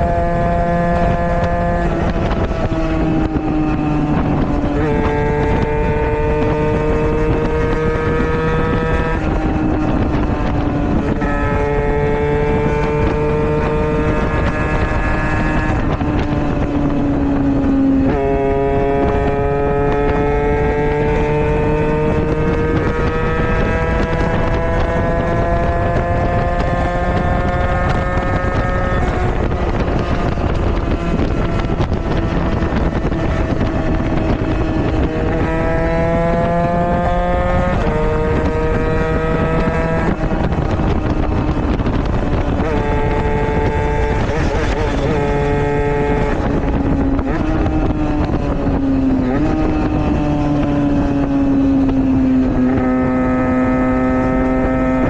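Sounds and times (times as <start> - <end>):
small motorcycle engine running: 0.0 - 55.0
wind noise on microphone: 0.0 - 55.0.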